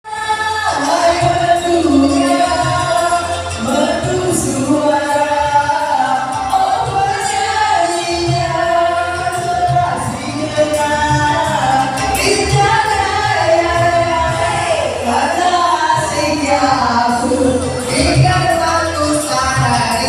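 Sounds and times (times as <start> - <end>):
instrumental backing with bass beat: 0.1 - 20.0
people singing long held notes: 0.1 - 20.0.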